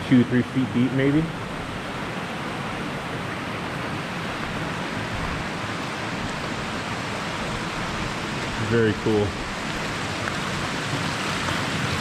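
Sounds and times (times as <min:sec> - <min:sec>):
creek water rushing over rock: 0:00.0 - 0:12.0.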